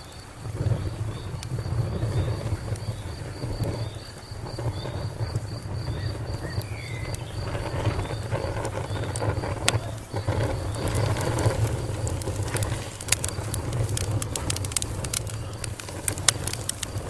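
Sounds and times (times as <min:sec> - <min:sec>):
cricket chirping: 0:00.0 - 0:17.0
wood fire crackling and popping: 0:00.0 - 0:17.0.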